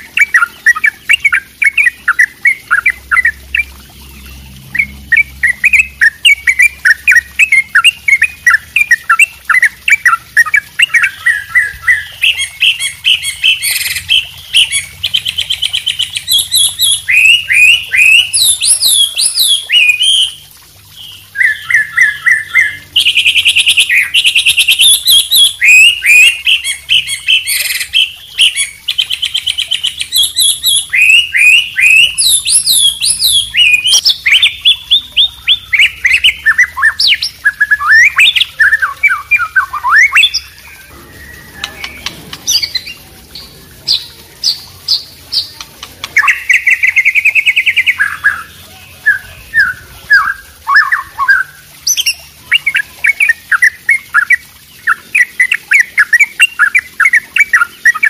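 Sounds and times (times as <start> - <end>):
high whistled bird phrases: 0.0 - 3.7, 4.7 - 58.0
songbirds chirping and trilling: 0.0 - 58.0.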